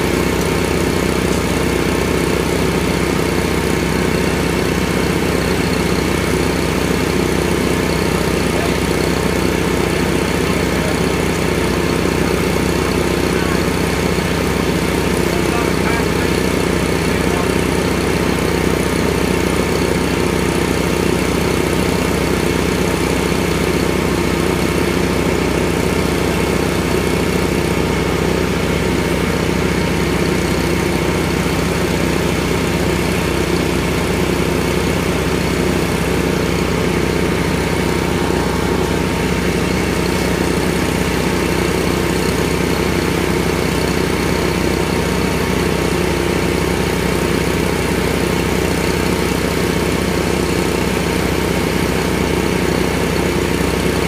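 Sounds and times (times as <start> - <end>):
machine engine running: 0.0 - 54.0.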